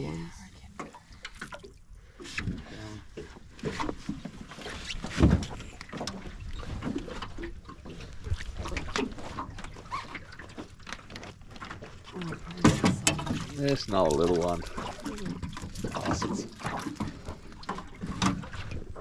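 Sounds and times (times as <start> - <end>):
rumble of wind and water: 0.0 - 19.0.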